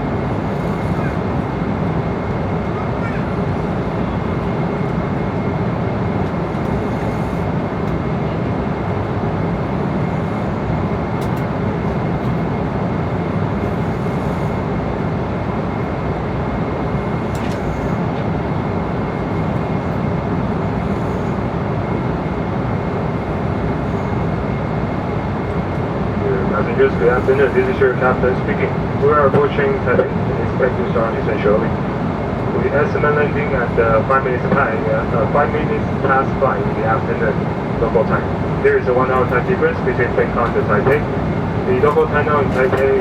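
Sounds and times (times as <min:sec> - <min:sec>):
airliner cabin engine rush: 0:00.0 - 0:43.0.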